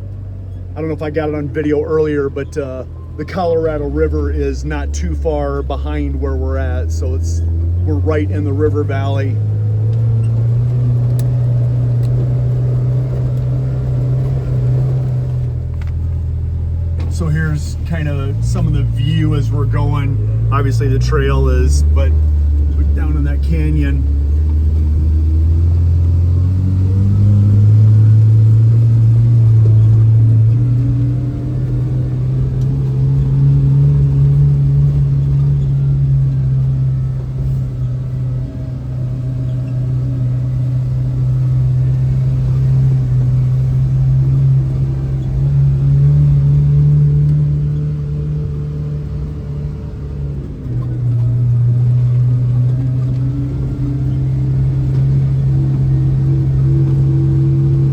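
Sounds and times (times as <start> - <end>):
engine drone inside cab: 0.0 - 57.9.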